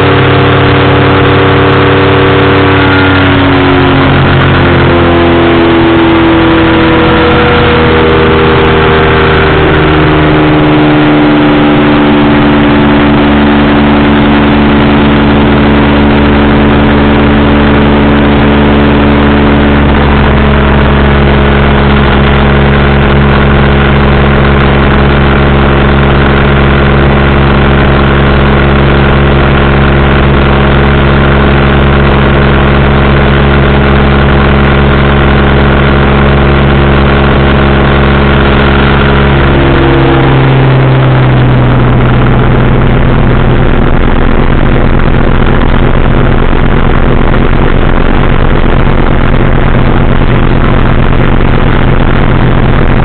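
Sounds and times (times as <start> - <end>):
engine and propeller running: 0.0 - 53.0.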